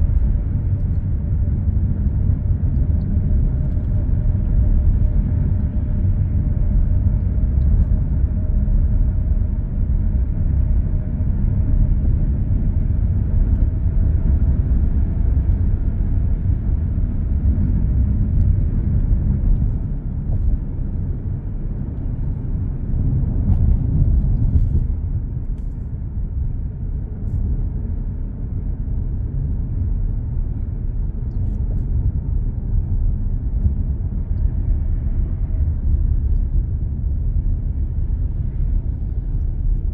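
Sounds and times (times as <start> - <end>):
car road rumble from inside: 0.0 - 39.9.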